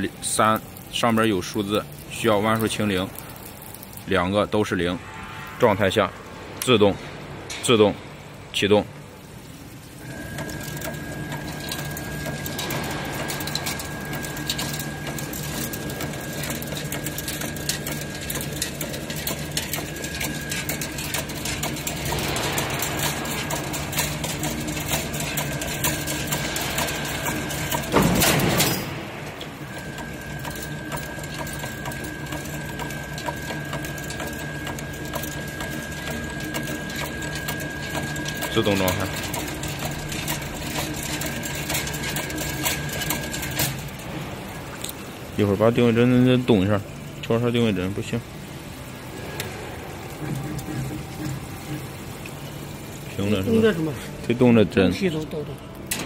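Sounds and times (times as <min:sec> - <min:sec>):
motor hum: 0:07.3 - 0:56.0
mechanical clatter: 0:09.6 - 0:56.0.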